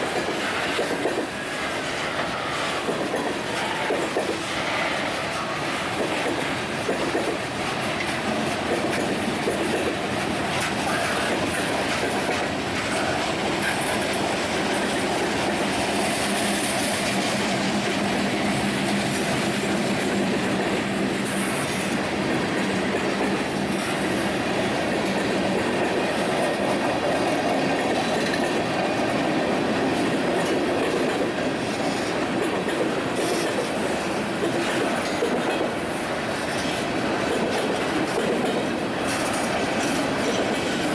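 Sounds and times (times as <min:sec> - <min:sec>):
train cars rolling on rails: 0:00.0 - 0:40.9.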